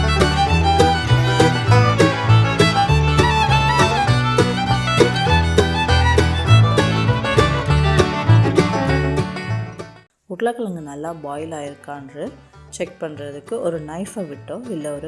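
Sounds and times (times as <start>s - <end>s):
upbeat bluegrass music: 0.0s - 10.1s, 11.0s - 15.0s.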